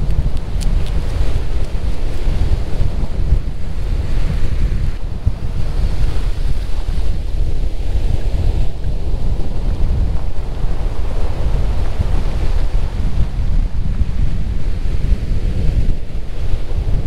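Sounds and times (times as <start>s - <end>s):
waves washing on pebbles: 0.0s - 17.0s
wind buffeting microphone: 0.0s - 17.0s.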